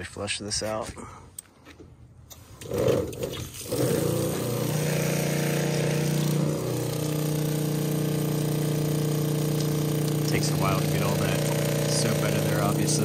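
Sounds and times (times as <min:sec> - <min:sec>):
pump running with steady hum: 0:02.5 - 0:13.0.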